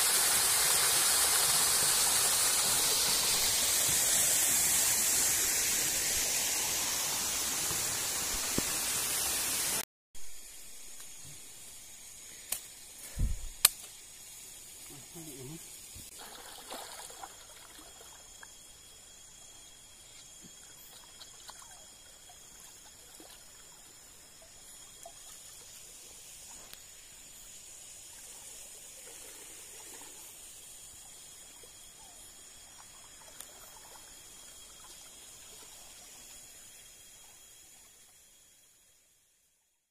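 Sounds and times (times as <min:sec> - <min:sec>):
insects calling: 0:00.0 - 0:39.5
trickle of running water: 0:00.0 - 0:39.8.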